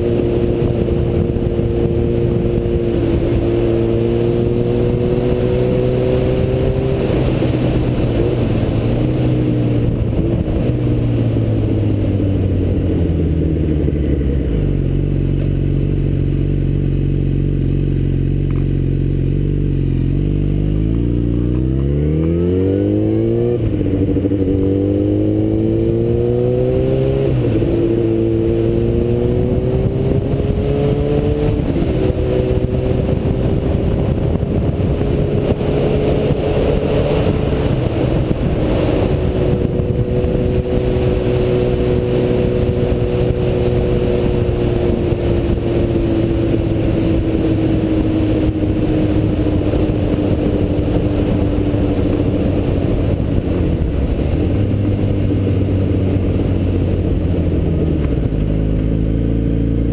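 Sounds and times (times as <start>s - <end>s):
motorcycle engine: 0.0s - 59.9s
wind rumble: 0.0s - 59.9s.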